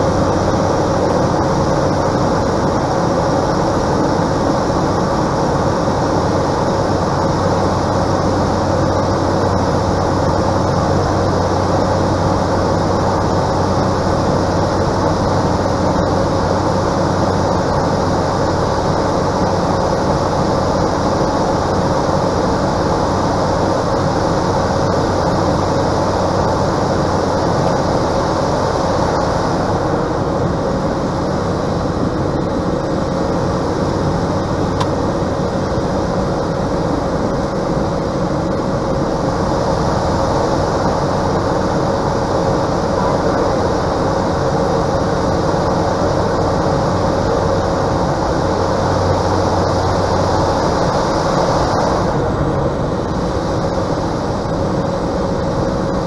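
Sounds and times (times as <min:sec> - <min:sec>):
rushing air noise: 0:00.0 - 0:56.0
turboprop engine drone: 0:00.0 - 0:56.0.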